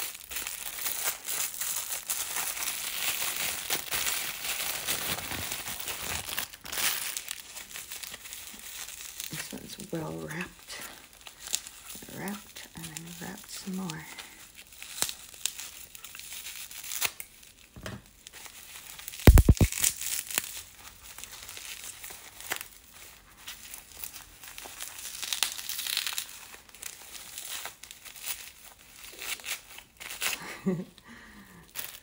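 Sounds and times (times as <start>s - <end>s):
packaging wrap crinkling and tearing: 0.0s - 32.0s.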